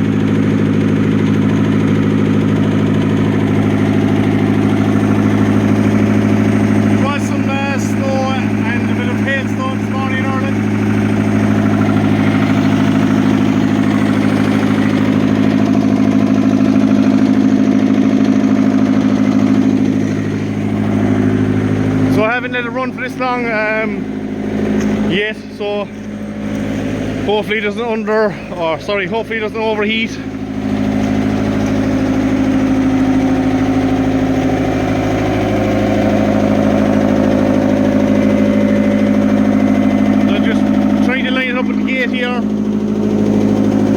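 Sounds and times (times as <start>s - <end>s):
excavator diesel engine idling: 0.0s - 43.9s.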